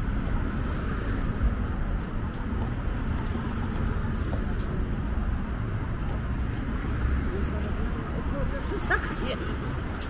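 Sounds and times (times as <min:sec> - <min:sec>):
traffic rumbling by: 0:00.0 - 0:10.0.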